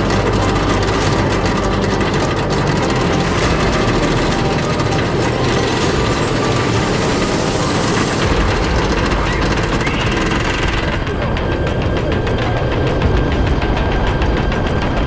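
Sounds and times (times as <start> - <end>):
amusement ride rumble and rattle: 0.0 - 15.0.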